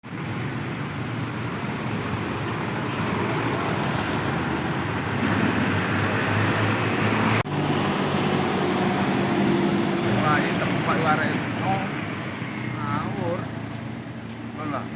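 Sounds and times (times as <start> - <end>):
truck engine running: 0.0 - 14.9.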